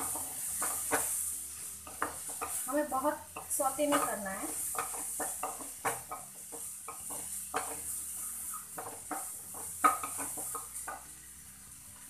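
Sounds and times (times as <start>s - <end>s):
spatula scraping a pan: 0.0s - 11.2s
vegetables sizzling in oil: 0.0s - 12.0s.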